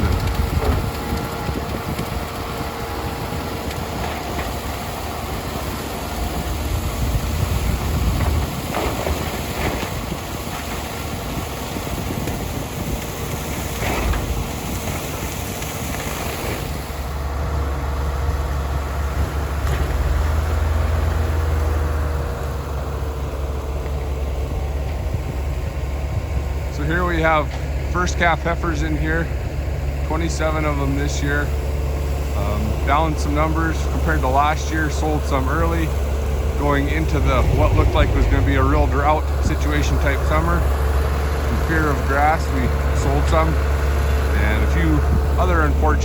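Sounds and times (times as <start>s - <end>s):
tractor engine hum: 0.0s - 46.0s.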